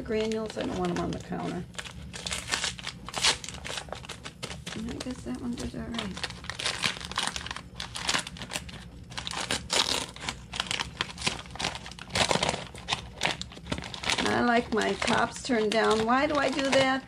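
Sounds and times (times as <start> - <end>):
sugar bag crinkling: 0.0 - 17.0.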